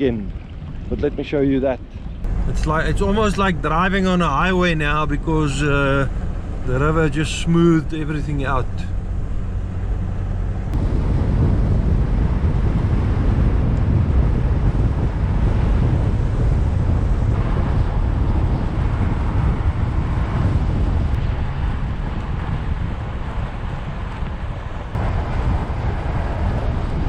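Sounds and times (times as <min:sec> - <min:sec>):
vehicle engine and tyre rumble: 0:00.0 - 0:27.0
wind buffeting microphone: 0:00.0 - 0:27.0.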